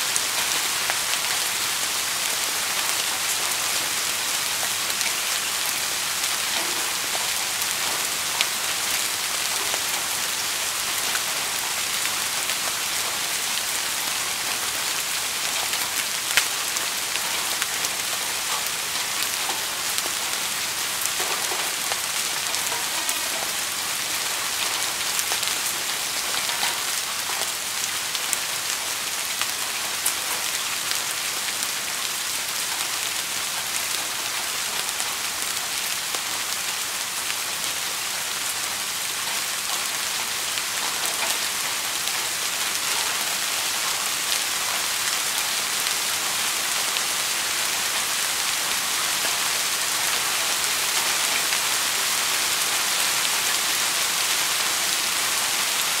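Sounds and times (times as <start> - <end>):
rain hissing: 0.0 - 56.0
raindrops pattering close by: 0.0 - 56.0.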